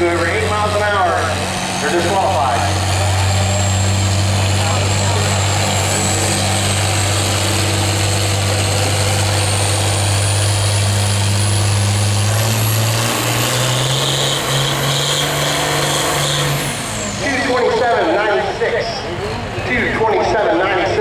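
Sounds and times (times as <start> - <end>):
engine running hard under load: 0.0 - 21.0.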